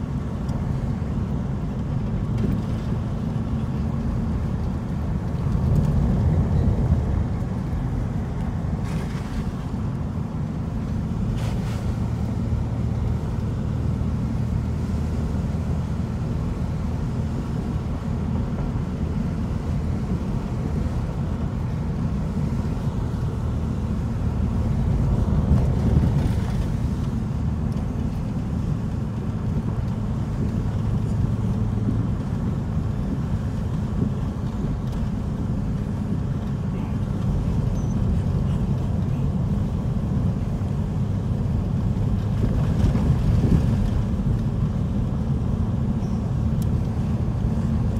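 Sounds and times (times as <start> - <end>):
car driving from inside cabin: 0.0 - 47.9.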